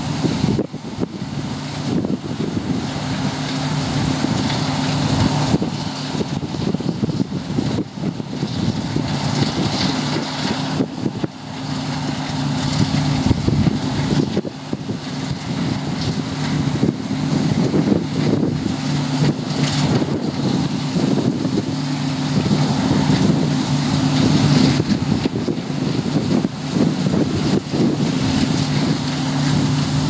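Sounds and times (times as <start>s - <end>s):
combine harvester engine drone: 0.0s - 30.0s
rush of machinery: 0.0s - 30.0s.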